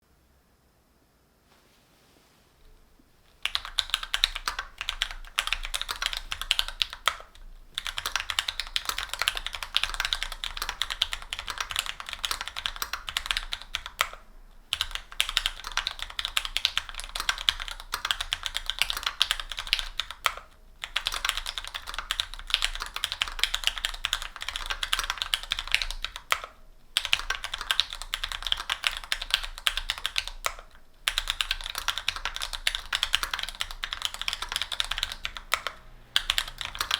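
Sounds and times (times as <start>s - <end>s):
mechanical keyboard typing: 3.4s - 36.9s.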